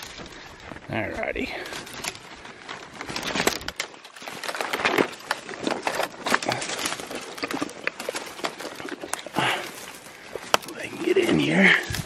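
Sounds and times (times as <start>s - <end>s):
dead leaves crunching: 0.0s - 12.0s
twigs snapping: 1.6s - 12.0s.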